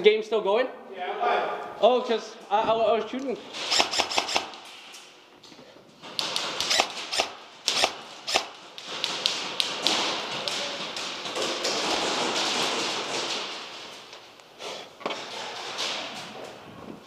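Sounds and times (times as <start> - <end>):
footsteps: 1.6 - 17.0.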